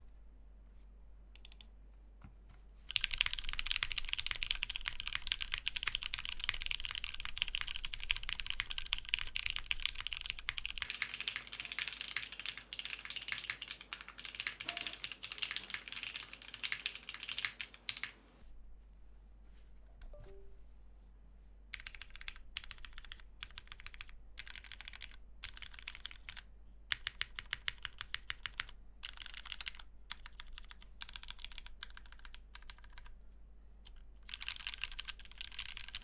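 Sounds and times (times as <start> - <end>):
fast typing on mechanical keyboard: 2.9 - 18.3, 21.8 - 33.2, 33.9 - 36.0.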